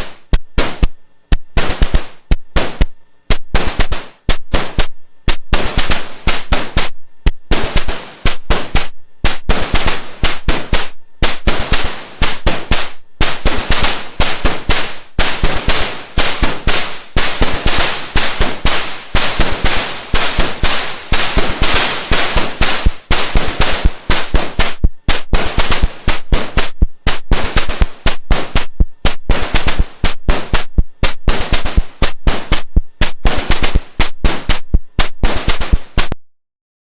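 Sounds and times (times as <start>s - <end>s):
static-like noise percussion hits: 0.0s - 36.2s.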